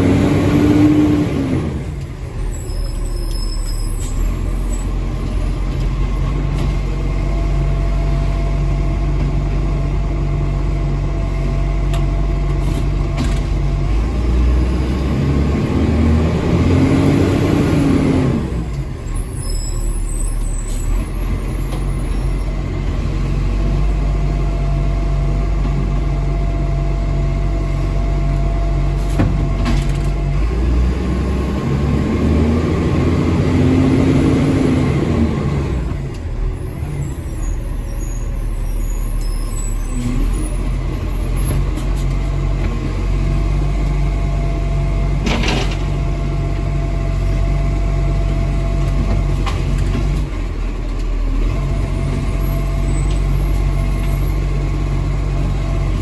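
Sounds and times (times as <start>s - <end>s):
diesel engine running and revving: 0.0s - 56.0s.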